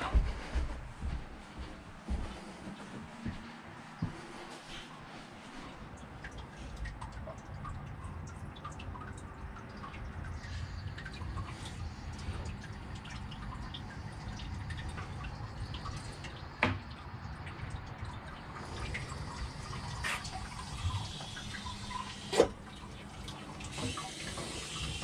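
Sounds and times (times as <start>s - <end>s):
water dripping: 2.8s - 25.0s.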